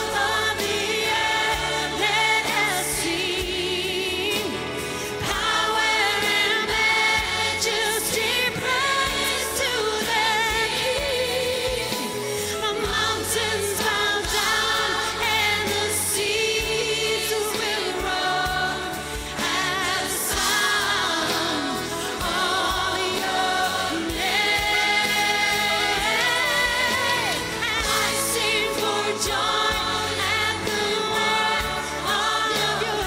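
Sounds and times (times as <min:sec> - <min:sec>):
band and choir: 0:00.0 - 0:33.0.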